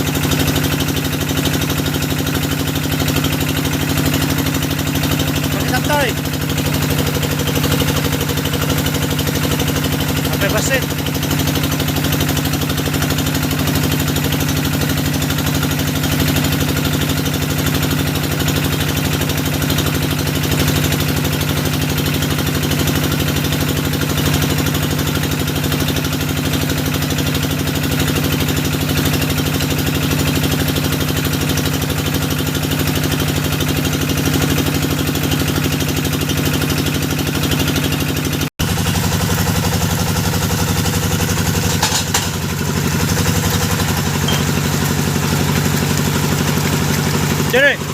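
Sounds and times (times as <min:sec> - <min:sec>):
drilling rig engine running: 0:00.0 - 0:47.9.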